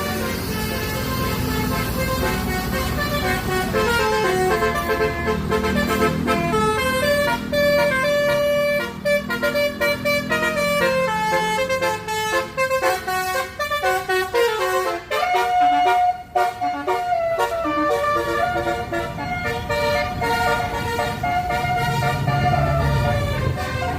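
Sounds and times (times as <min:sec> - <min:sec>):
bus engine rumble: 0:00.0 - 0:23.9
bus horns playing melody: 0:00.0 - 0:23.9.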